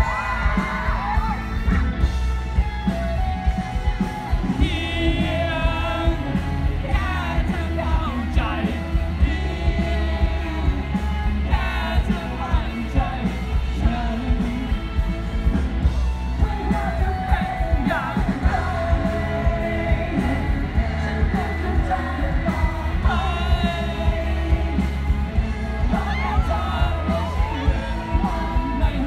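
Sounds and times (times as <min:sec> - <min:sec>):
bass guitar: 0:00.0 - 0:29.0
drum beat: 0:00.0 - 0:29.0
electric guitars: 0:00.0 - 0:29.0
male vocal singing: 0:04.6 - 0:15.3, 0:16.4 - 0:29.0.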